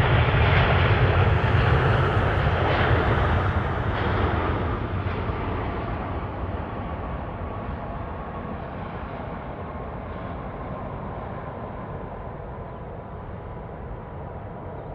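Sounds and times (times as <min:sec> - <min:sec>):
jet engine rumble and whine: 0:00.0 - 0:14.9.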